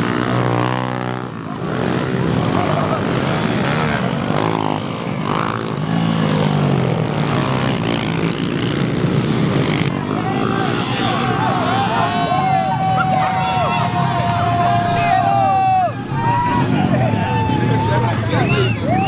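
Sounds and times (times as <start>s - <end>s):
pit bike engines revving: 0.0s - 19.0s.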